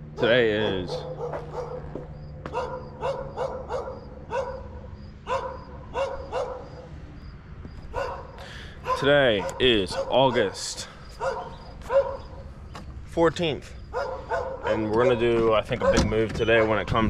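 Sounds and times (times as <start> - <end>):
dog barking: 0.2 - 6.9, 7.9 - 10.6, 11.2 - 12.4, 13.9 - 17.0.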